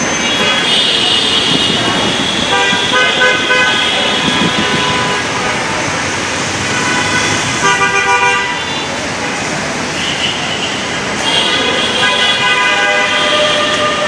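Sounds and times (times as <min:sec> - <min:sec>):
busy road traffic: 0:00.0 - 0:14.0
vehicle horn honking: 0:00.2 - 0:05.7, 0:06.6 - 0:08.9, 0:10.0 - 0:14.0.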